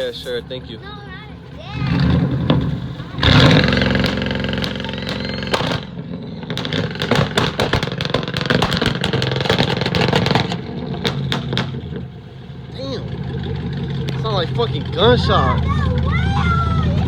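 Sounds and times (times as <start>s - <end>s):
car engine revving: 0.0s - 17.0s
exhaust popping and crackling: 0.0s - 17.0s.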